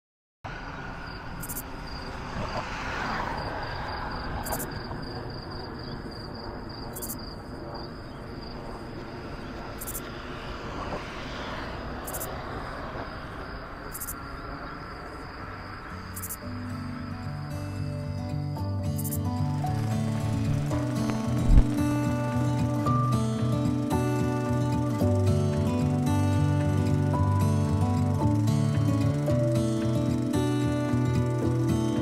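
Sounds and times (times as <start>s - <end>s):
insect chirping: 0.5s - 31.4s
distant traffic rumble: 0.5s - 32.0s.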